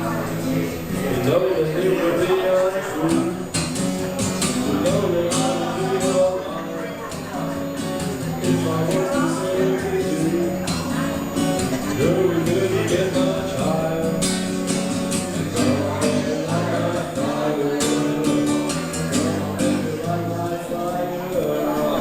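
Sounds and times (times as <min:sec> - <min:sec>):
live rock guitar music: 0:00.0 - 0:22.0.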